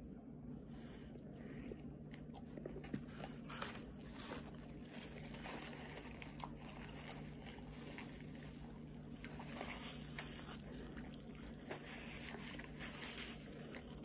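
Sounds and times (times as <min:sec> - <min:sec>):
faint steady hum: 0:00.0 - 0:14.0
person chewing sandwich: 0:00.8 - 0:14.0.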